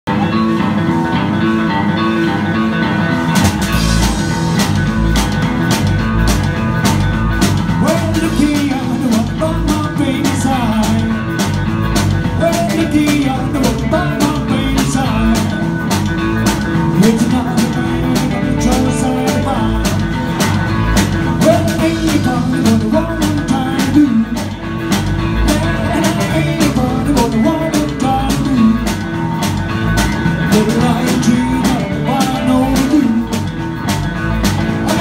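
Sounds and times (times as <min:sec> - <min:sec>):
drum kit: 0:00.1 - 0:35.0
electric guitars: 0:00.1 - 0:35.0.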